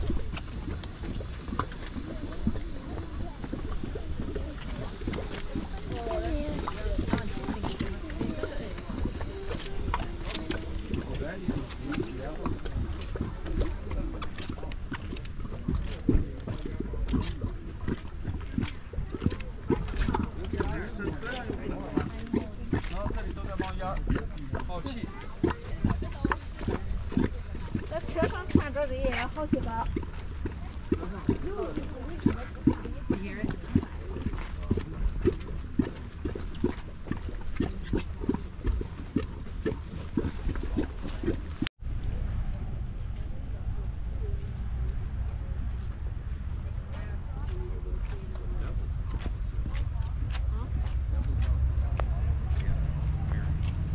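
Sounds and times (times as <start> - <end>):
steady low rumble: 0.0 - 53.9
water gurgling and bubbling: 0.0 - 53.9.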